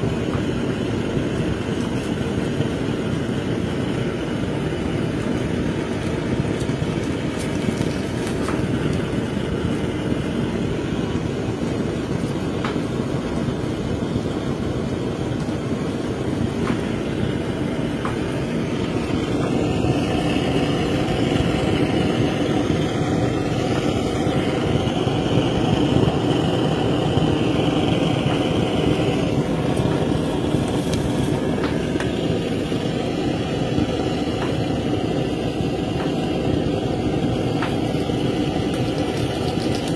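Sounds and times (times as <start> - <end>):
blowtorch flame hissing: 0.0 - 39.9.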